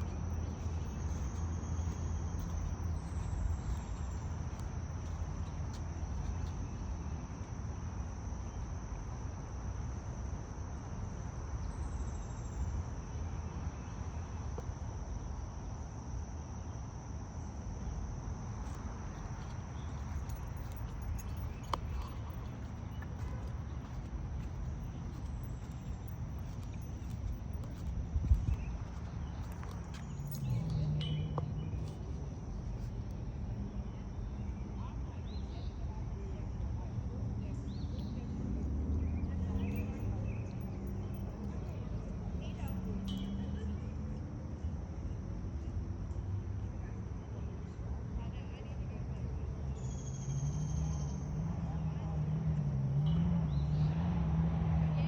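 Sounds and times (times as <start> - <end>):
crickets trilling: 0.0 - 48.1
low steady rumble: 0.0 - 55.0.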